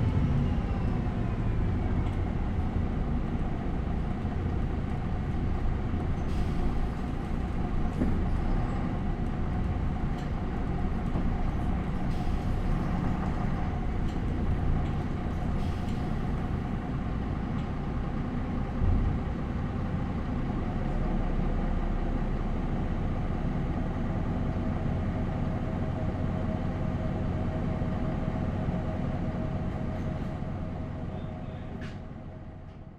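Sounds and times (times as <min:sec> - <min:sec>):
bus diesel engine rumble: 0:00.0 - 0:32.9.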